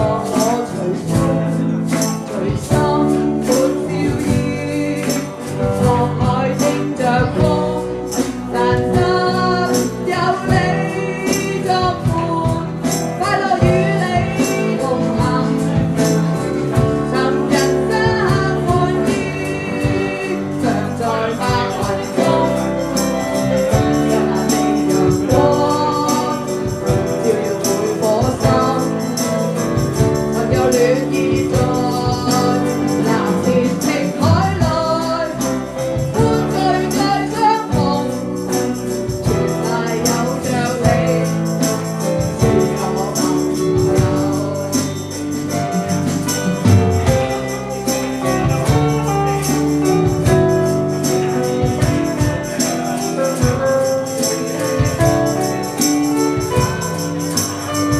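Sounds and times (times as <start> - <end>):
instrumental pop ballad music: 0.0 - 57.9.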